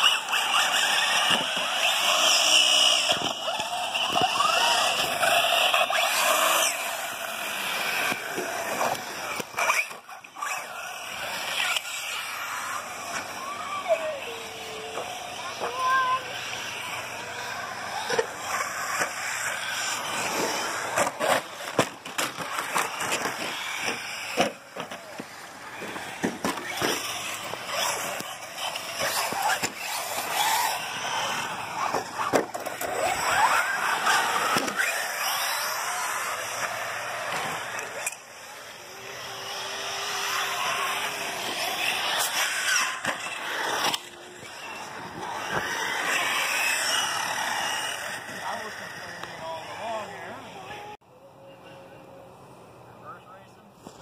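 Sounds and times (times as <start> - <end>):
toy cars knocking and clacking: 0.0 - 51.0
tyres scraping on dirt: 0.0 - 51.0.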